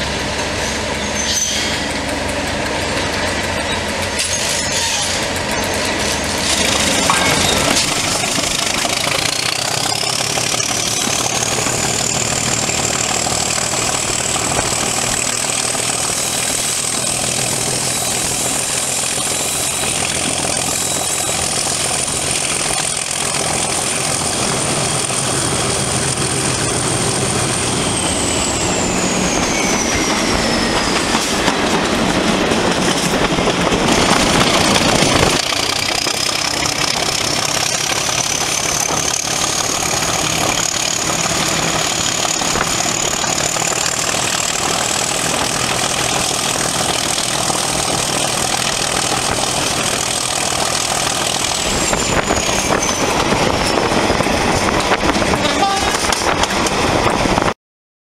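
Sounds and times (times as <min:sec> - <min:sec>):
diesel locomotive engine running hard: 0:00.0 - 0:57.6.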